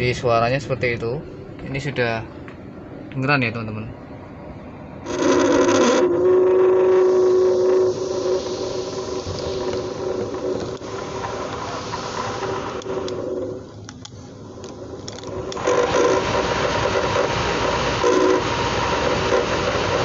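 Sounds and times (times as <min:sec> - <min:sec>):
blower motor growling hum: 0:00.0 - 0:20.0.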